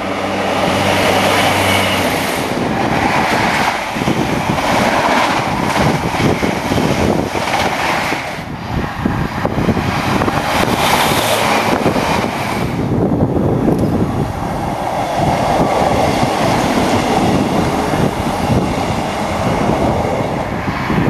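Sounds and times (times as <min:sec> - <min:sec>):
train wheels rumbling on track: 0:00.0 - 0:21.0
wind buffeting microphone: 0:00.0 - 0:21.0.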